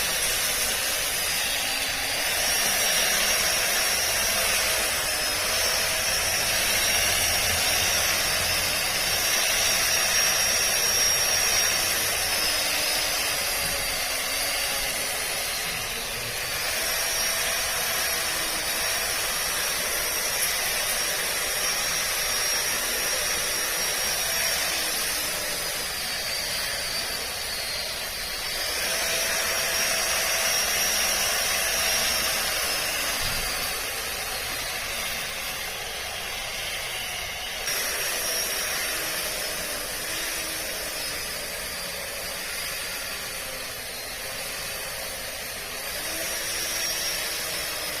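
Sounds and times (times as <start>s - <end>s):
grass trimmer motor whine: 0.0s - 48.0s.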